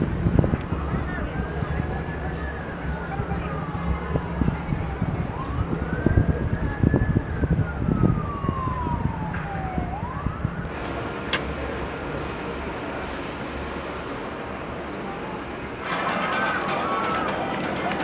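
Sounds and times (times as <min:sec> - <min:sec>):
distant siren wailing: 0:00.0 - 0:13.1, 0:15.7 - 0:18.0.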